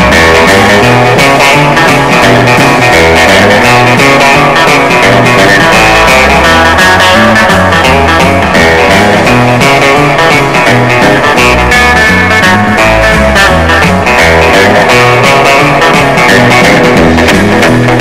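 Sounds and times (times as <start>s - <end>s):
guitar rock music: 0.0s - 18.0s
steady bass line: 0.0s - 18.0s.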